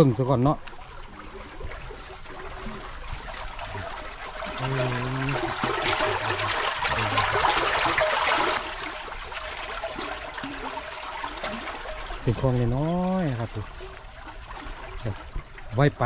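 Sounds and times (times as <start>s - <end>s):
shallow water rushing and trickling: 0.0s - 16.0s.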